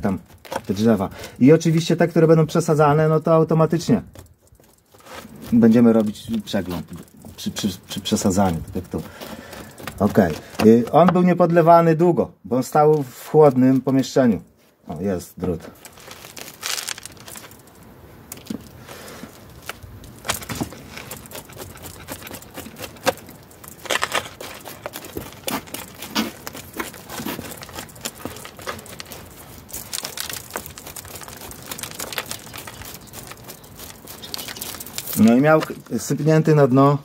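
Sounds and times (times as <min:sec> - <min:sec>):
root hook scratching dry soil: 0:00.0 - 0:37.0.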